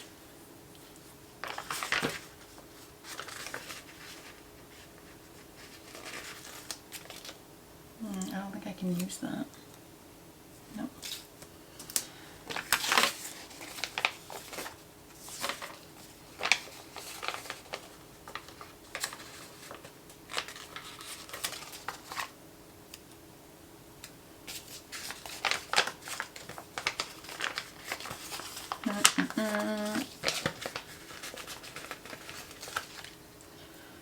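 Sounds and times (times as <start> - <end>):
paper rustling and crinkling: 0.0 - 7.4, 11.0 - 22.4, 24.5 - 33.3.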